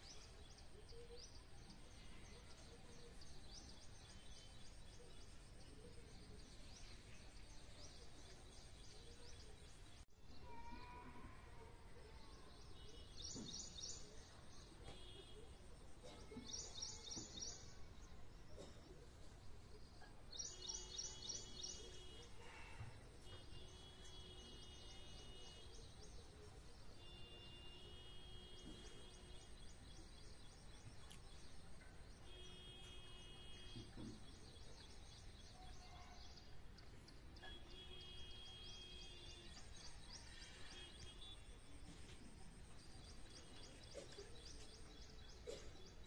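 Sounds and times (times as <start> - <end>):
faint outdoor background: 0.0 - 46.0.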